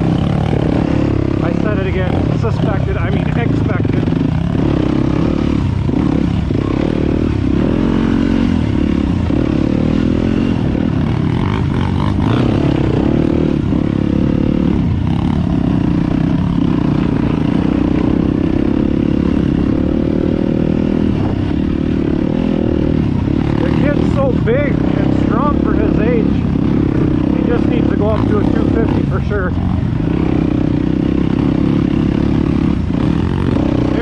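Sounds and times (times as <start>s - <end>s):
dirt bike engine: 0.0s - 34.0s.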